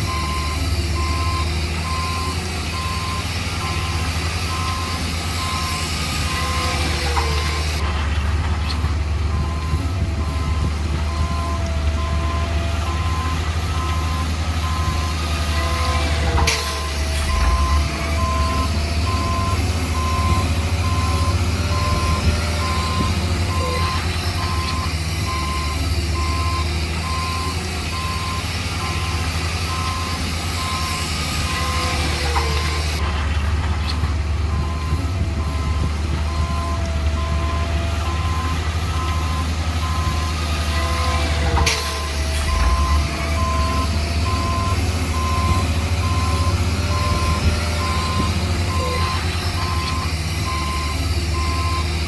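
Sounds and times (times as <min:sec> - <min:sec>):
reversing alarm beeping: 0:00.0 - 0:07.8, 0:09.3 - 0:33.0, 0:34.5 - 0:52.0
diesel engine rumbling: 0:00.0 - 0:52.0.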